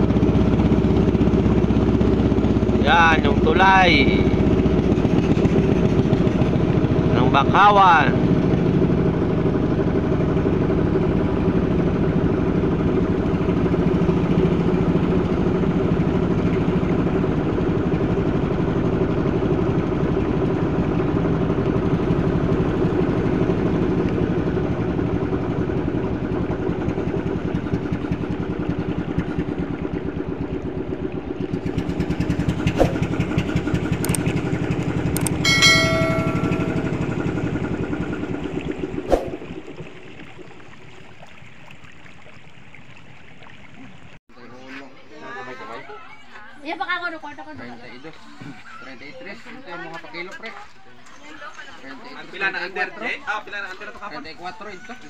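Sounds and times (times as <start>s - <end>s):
small boat engine running: 0.0s - 44.2s.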